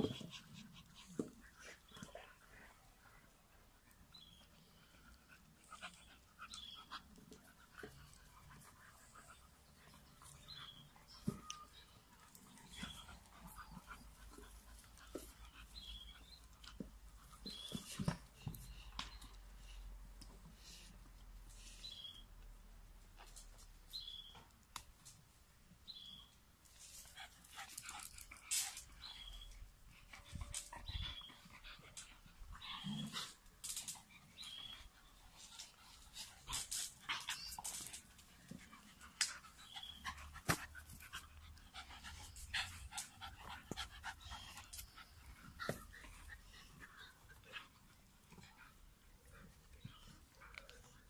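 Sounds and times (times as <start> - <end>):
dogs panting and sniffing: 0.0 - 22.2, 26.5 - 51.0.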